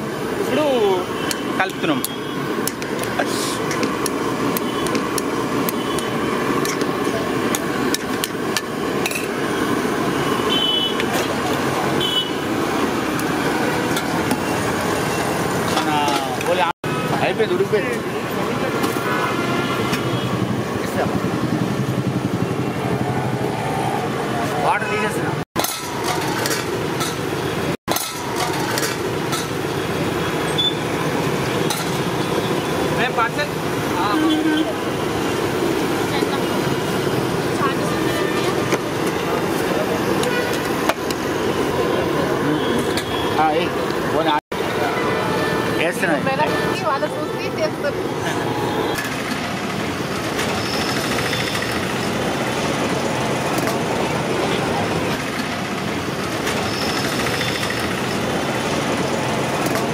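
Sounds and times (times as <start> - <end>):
roadside traffic rumble: 0.0 - 59.9.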